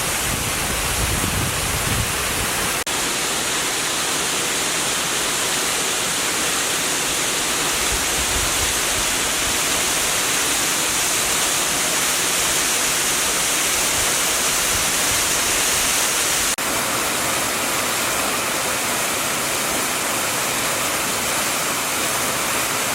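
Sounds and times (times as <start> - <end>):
waterfall pouring: 0.0 - 22.9.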